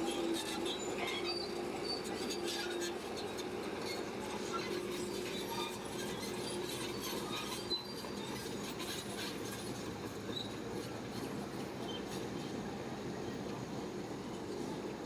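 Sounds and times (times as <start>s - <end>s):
bulldozer engine working: 0.0s - 15.0s
squeaks of steel tracks: 0.0s - 15.0s.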